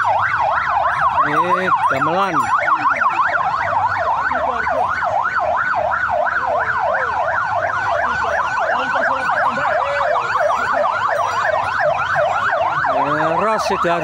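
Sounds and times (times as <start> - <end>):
sirens yelping: 0.0 - 14.0.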